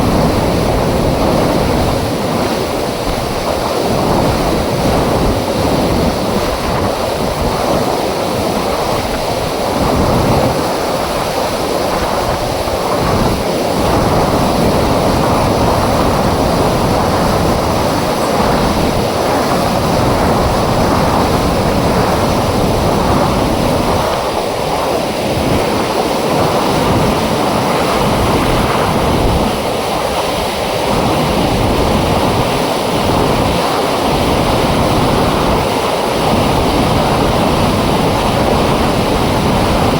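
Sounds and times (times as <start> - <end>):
water rushing through dam gate: 0.0 - 39.9.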